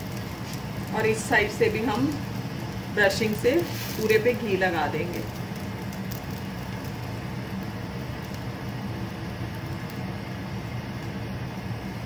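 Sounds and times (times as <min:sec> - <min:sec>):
flatbread sizzling on a griddle: 0:00.0 - 0:12.0
low steady hum: 0:00.0 - 0:12.0.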